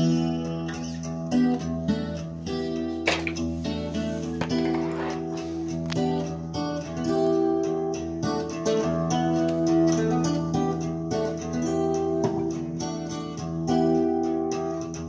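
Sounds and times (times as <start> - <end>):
instrumental guitar music through speaker: 0.0 - 15.0.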